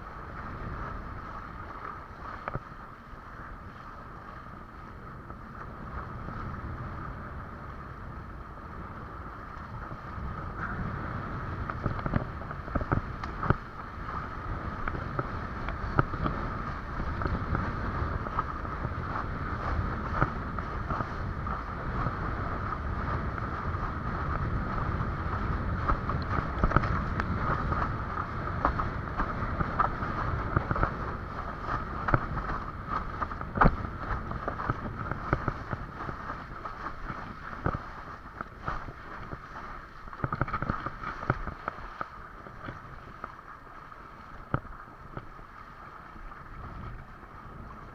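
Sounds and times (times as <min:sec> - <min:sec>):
wind buffeting microphone: 0:00.0 - 0:47.9
water rushing and splashing: 0:09.5 - 0:47.9.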